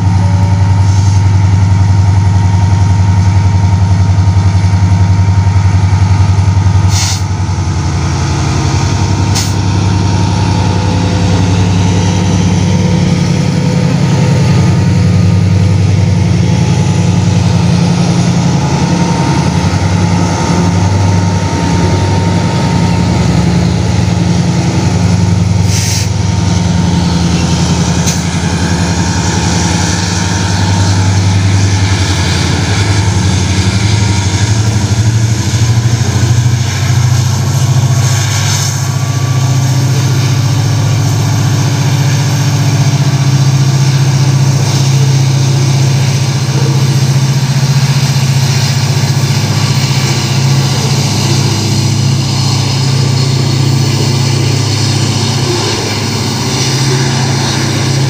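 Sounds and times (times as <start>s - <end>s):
locomotive engines droning: 0.0s - 58.0s.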